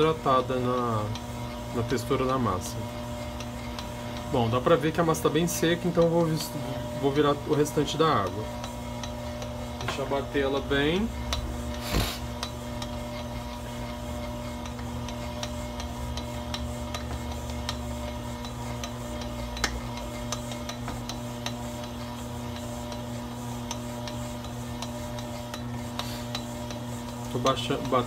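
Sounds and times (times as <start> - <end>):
dough hook ticking: 0.0 - 28.0
stand mixer motor hum: 0.0 - 28.0.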